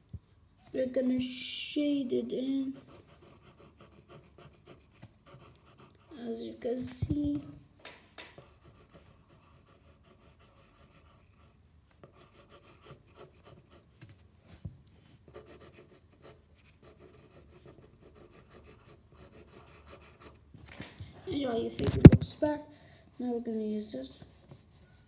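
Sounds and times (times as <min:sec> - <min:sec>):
pencil scratching on paper: 0:02.0 - 0:20.5, 0:21.3 - 0:25.0.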